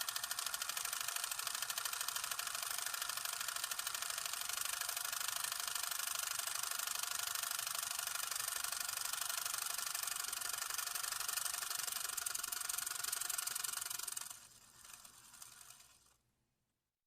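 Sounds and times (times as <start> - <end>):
film camera mechanical clatter: 0.0 - 16.0.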